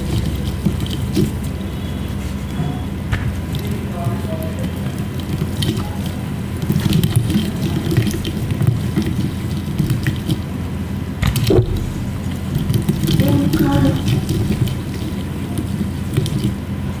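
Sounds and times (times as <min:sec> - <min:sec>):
water filling a container: 0:00.0 - 0:02.1, 0:03.3 - 0:17.0.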